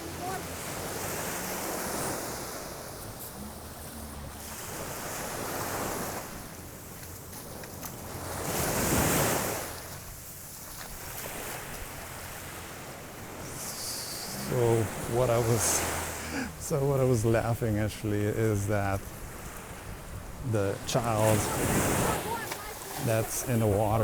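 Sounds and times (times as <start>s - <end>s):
waves washing on beach: 0.0s - 24.0s
wind rumbling on microphone: 0.0s - 24.0s.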